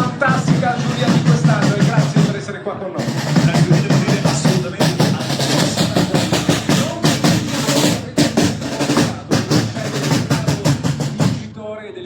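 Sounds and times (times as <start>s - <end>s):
fast driving drum beat: 0.0s - 11.6s.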